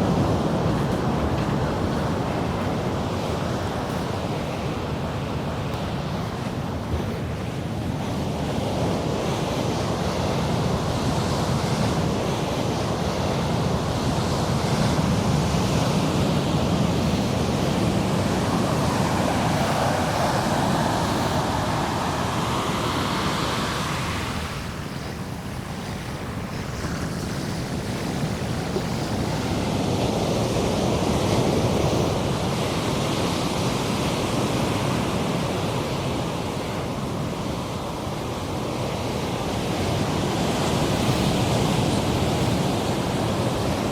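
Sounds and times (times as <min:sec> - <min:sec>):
ocean surf breaking: 0:00.0 - 0:43.9
wind buffeting microphone: 0:00.0 - 0:43.9.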